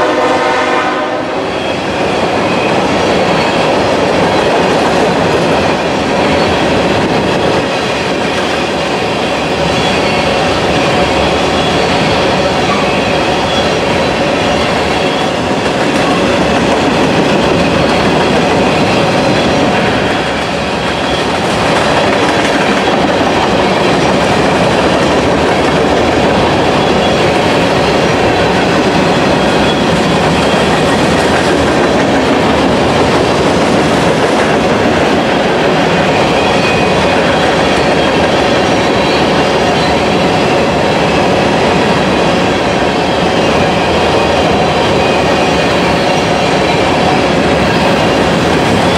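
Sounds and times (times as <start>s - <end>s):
freight train wheels clattering: 1.5s - 48.9s.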